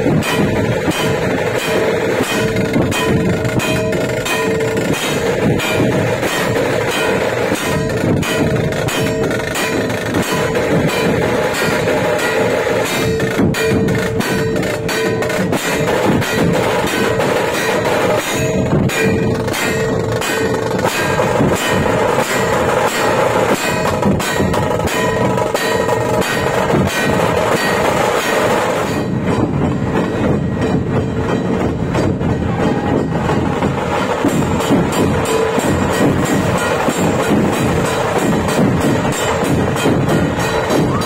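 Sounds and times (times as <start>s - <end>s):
drums beaten fast: 0.0s - 41.0s
metallic ringing: 0.0s - 41.0s.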